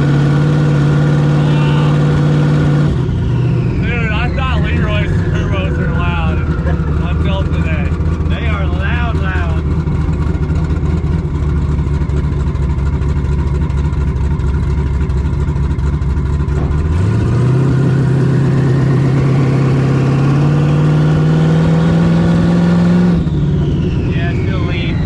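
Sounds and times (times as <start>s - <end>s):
turbo whine: 0.0s - 13.0s, 17.7s - 25.0s
car engine revving: 0.0s - 25.0s.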